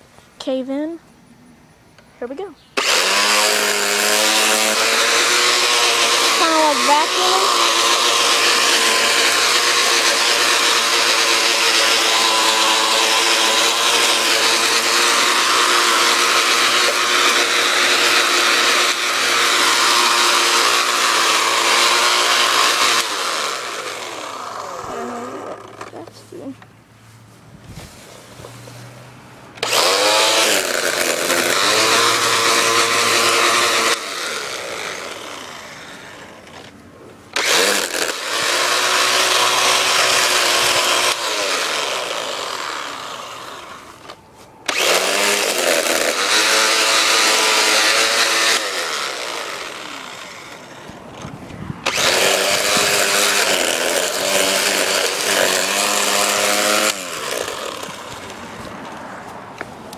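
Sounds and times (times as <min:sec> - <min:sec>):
electric trimmer motor whine: 0:02.8 - 0:26.1, 0:29.6 - 0:58.6
trimmer line whirring through plants: 0:02.8 - 0:59.9.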